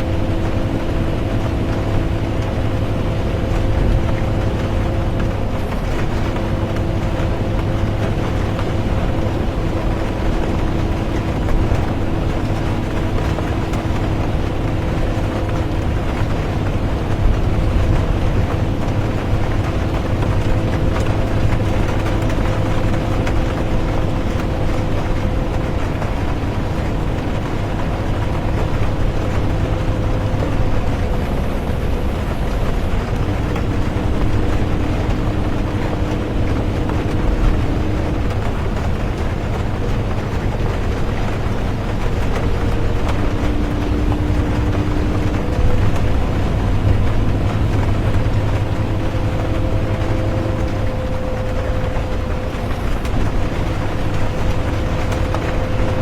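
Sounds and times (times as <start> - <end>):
bus engine drone: 0.0 - 56.0
calm rain: 0.0 - 56.0
humming tones: 0.0 - 56.0
road noise: 0.0 - 56.0.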